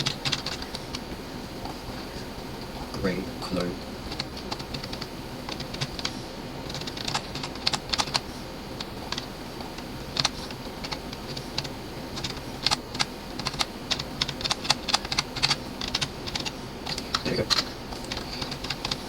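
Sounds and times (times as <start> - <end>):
computer keyboard keys tapped: 0.0 - 1.1, 4.1 - 19.0.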